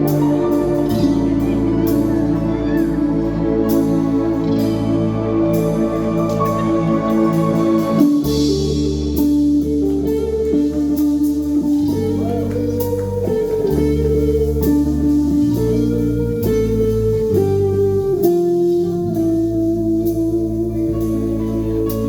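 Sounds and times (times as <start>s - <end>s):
bass guitar: 0.0s - 22.0s
electric guitar: 0.0s - 22.0s.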